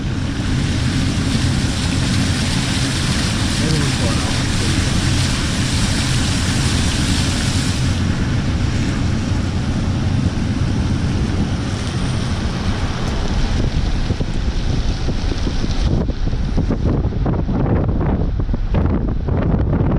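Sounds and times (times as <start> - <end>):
boat motor running: 0.0 - 17.2
wind and water rushing: 0.0 - 19.9.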